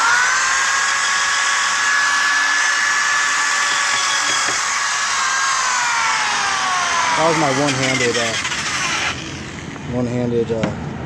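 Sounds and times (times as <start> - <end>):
power drill sanding wood: 0.0 - 9.8.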